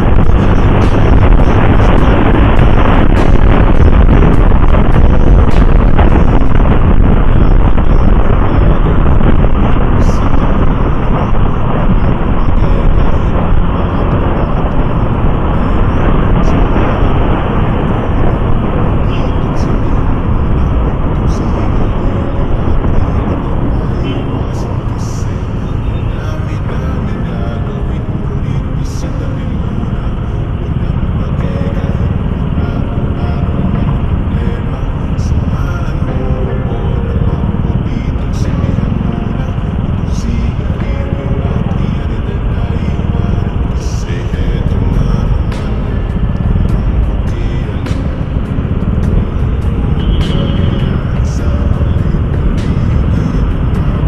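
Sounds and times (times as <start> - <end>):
motorcycle road noise: 0.0 - 54.0
wind noise: 0.0 - 54.0.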